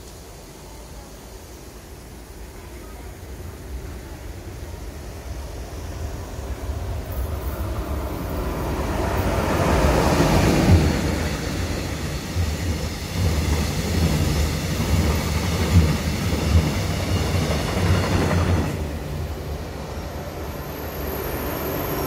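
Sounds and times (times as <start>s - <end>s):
train wheels rumbling on rail: 2.3s - 22.0s.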